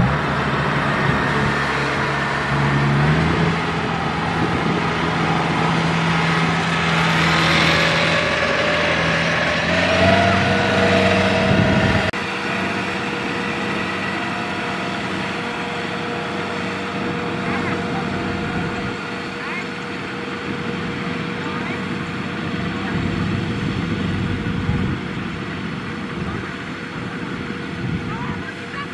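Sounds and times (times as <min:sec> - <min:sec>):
tractor engine running under load: 0:00.0 - 0:28.9.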